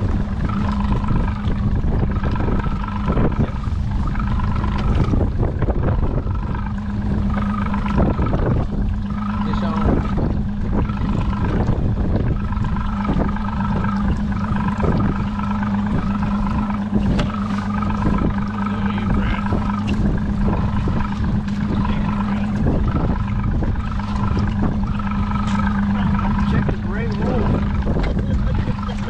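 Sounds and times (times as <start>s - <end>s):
boat motor running: 0.0s - 29.0s
wind buffeting microphone: 0.0s - 29.0s.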